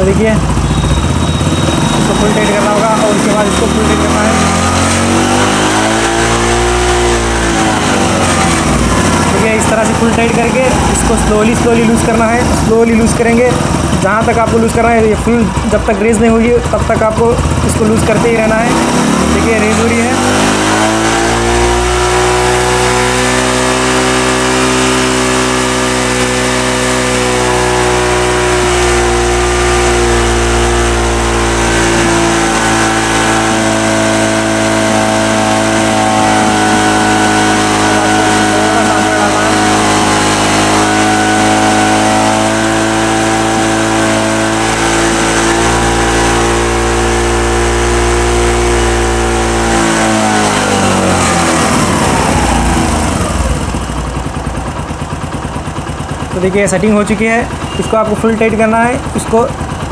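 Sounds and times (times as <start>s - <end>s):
motorcycle engine idling high: 0.0s - 59.9s.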